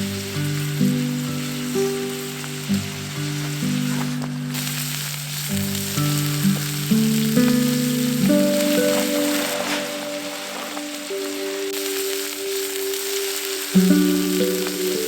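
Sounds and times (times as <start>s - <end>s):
background music held notes: 0.0s - 15.0s
food sizzling in a pan: 0.0s - 15.0s.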